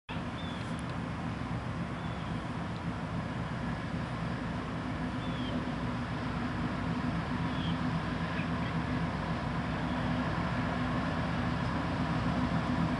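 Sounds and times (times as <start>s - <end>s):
diesel locomotive droning: 0.1s - 12.9s.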